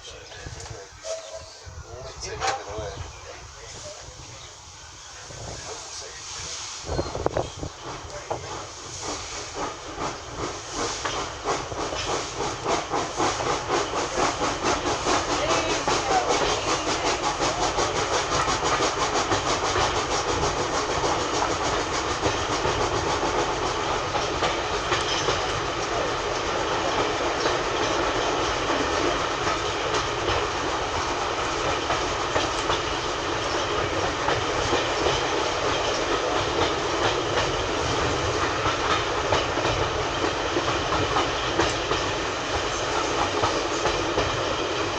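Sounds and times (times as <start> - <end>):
train wheels clattering over rail joints: 7.0 - 44.9.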